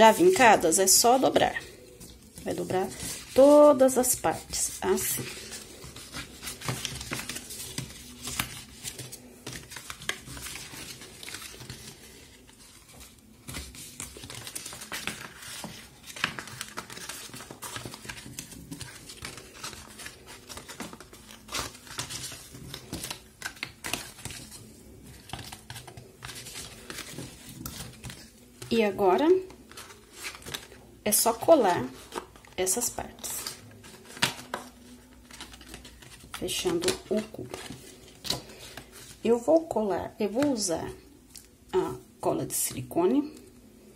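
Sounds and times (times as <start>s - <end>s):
cardstock crinkling as it is folded: 0.0s - 39.3s.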